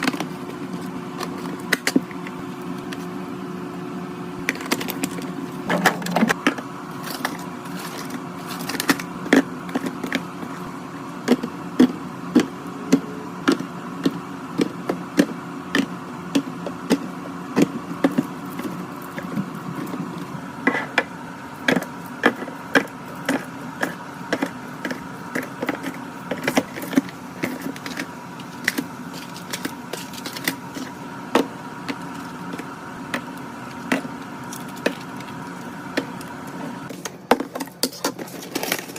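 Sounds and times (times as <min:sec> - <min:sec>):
fridge hum: 0:00.0 - 0:38.9.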